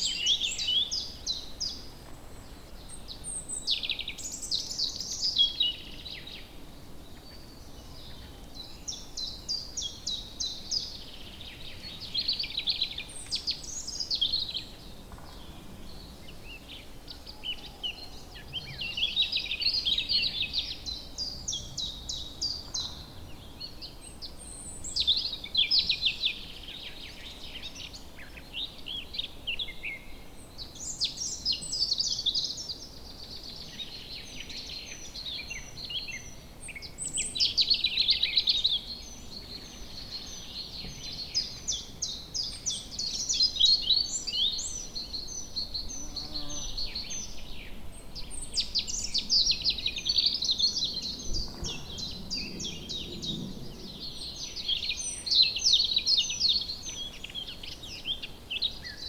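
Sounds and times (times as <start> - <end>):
birds twittering song: 0.0 - 59.0
faint background hiss: 0.0 - 59.0.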